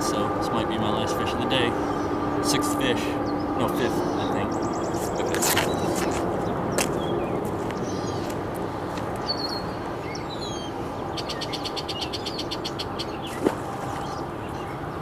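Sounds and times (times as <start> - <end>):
songbirds chirping: 0.0 - 15.0
steady background rush: 0.0 - 15.0.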